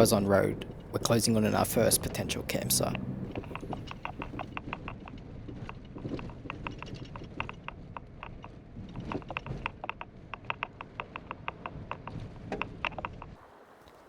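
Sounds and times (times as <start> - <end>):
fast sharp ticks: 0.0 - 14.0
vehicle rumble: 0.0 - 14.0.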